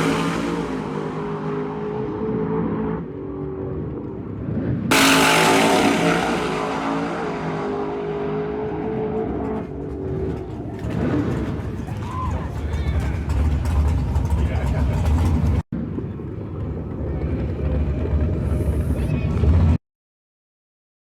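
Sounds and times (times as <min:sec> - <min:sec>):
race car engine at high revs: 0:00.0 - 0:15.6, 0:16.5 - 0:19.8.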